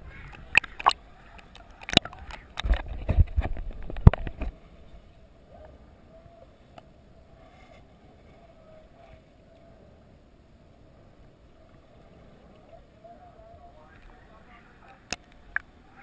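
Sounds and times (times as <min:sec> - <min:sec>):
muffled underwater ambience: 0:00.0 - 0:16.0
underwater sloshing: 0:00.0 - 0:16.0.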